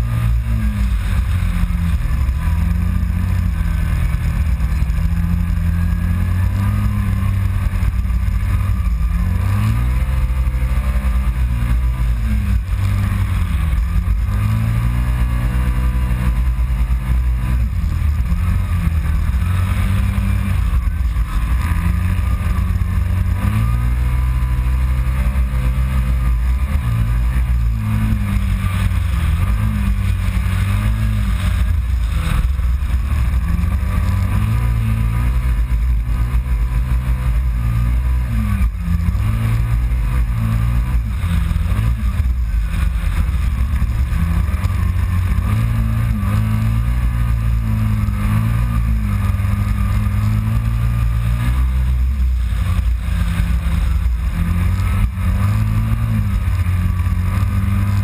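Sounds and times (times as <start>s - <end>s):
engine revving: 0.0s - 58.0s
wind and driving noise: 0.0s - 58.0s.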